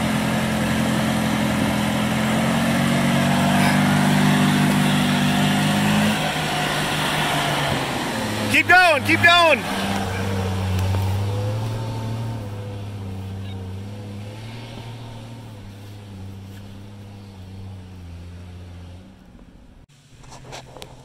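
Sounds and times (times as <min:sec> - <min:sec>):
truck engine passing: 0:00.0 - 0:19.9.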